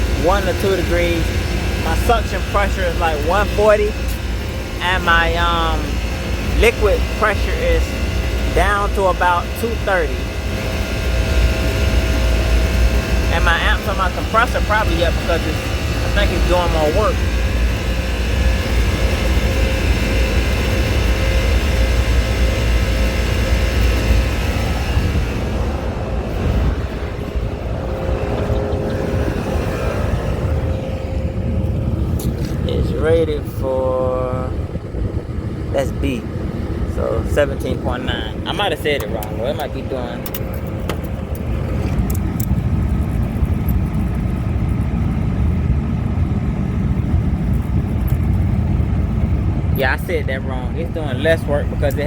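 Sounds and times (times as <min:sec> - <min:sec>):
air conditioner unit rumbling: 0:00.0 - 0:52.0
compressor and fan hum: 0:00.0 - 0:52.0
faint steady whine: 0:00.0 - 0:52.0.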